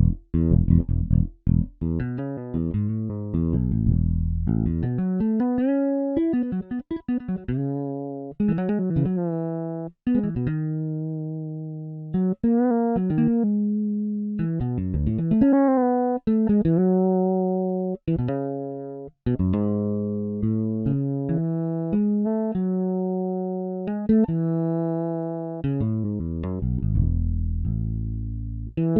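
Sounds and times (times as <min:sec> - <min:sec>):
fretless bass plucked notes: 0:00.0 - 0:28.9.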